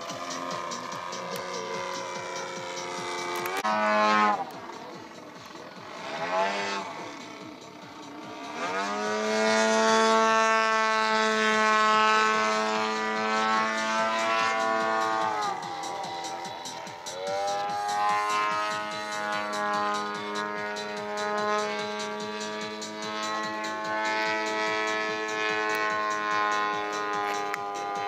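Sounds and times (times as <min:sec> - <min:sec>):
model plane engine and propeller: 0:00.0 - 0:28.0.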